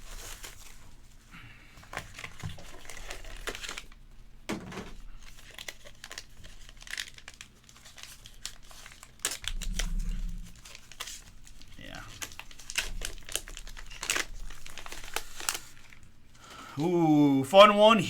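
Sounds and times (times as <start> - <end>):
plastic packaging crinkling and tearing: 0.0 - 16.7.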